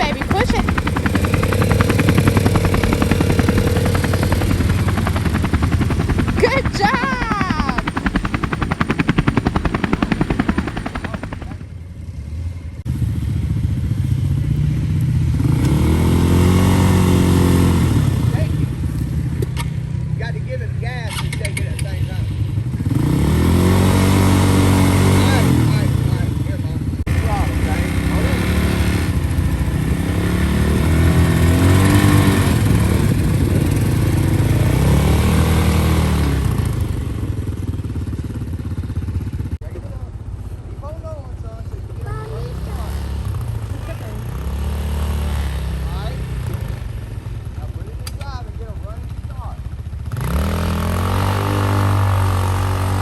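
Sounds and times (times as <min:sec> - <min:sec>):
atv engine revving: 0:00.0 - 0:11.7, 0:12.9 - 0:19.7, 0:21.7 - 0:39.4, 0:42.1 - 0:47.4, 0:49.9 - 0:53.0.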